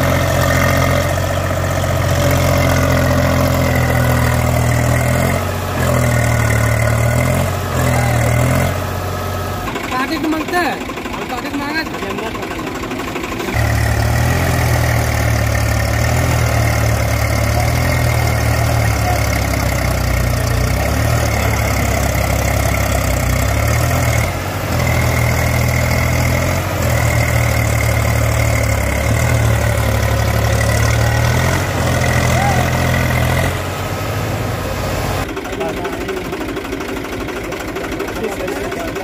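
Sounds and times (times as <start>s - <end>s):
tractor diesel engines running hard: 0.0s - 39.0s.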